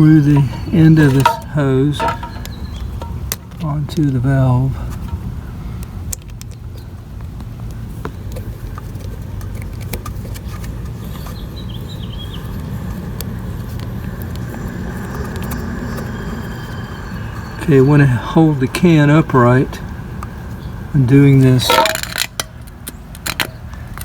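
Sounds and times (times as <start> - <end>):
steady low rumble: 0.0 - 7.9, 10.7 - 22.8.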